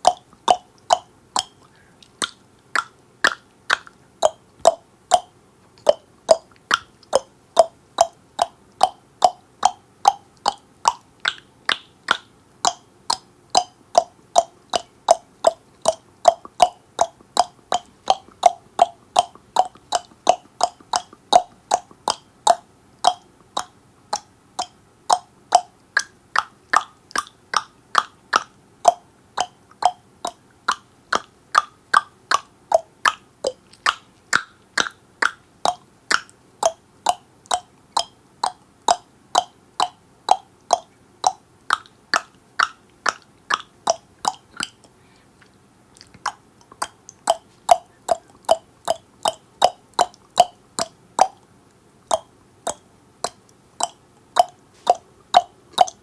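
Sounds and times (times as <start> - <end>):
tongue clicks: 0.0 - 56.0.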